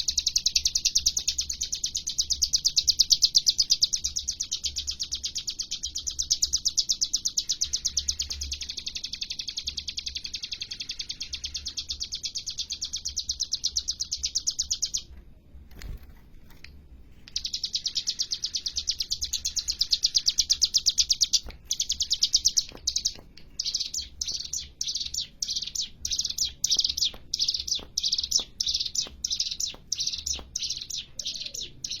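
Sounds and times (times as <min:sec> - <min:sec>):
bird singing fast dry trill: 0:00.0 - 0:15.1, 0:17.3 - 0:32.0.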